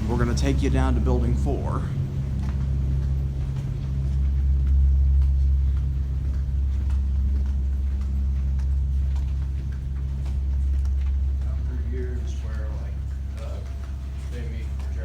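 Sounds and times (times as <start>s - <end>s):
faint footsteps: 0.0s - 15.0s
steady low hum: 0.0s - 15.0s.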